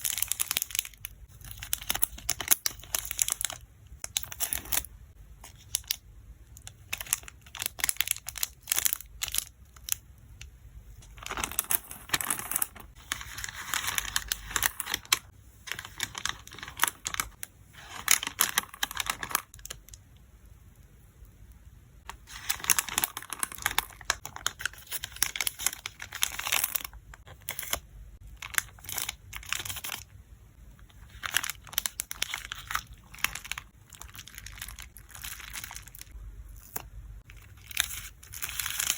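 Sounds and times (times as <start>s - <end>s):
plastic packaging crinkling: 0.0s - 6.0s, 6.6s - 10.0s, 11.0s - 20.0s, 22.1s - 30.1s, 30.8s - 38.9s.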